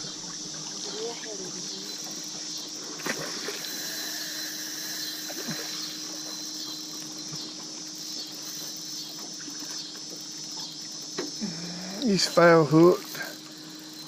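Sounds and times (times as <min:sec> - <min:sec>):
high-pitched insect chorus: 0:00.0 - 0:14.0
low hum: 0:00.0 - 0:14.0.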